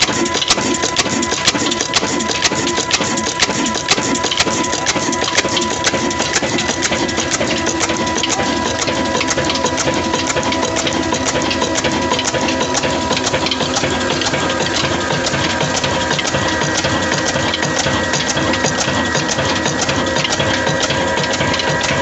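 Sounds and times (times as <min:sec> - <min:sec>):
diesel engine clattering: 0:00.0 - 0:22.0
mechanical hum: 0:00.0 - 0:22.0.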